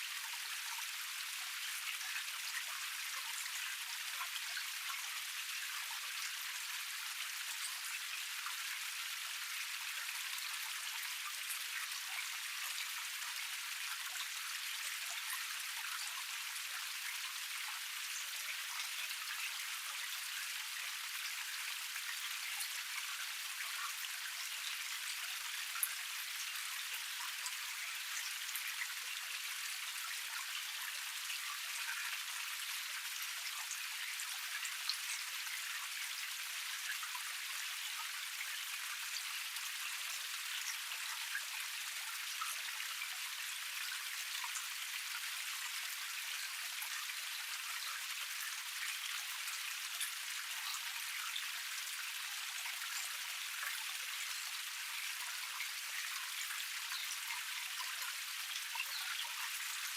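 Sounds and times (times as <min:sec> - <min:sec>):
small waterfall splashing: 0:00.0 - 0:59.9.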